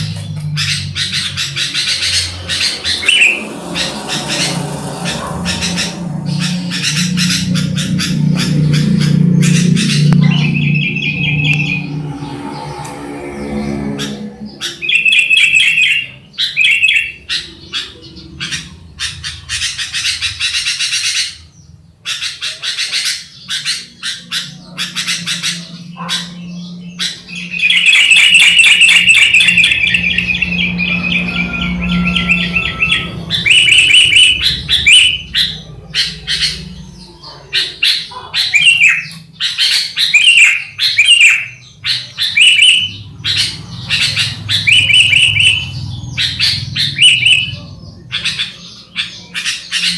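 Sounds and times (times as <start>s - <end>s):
birds chirping and chattering: 0.0s - 49.9s.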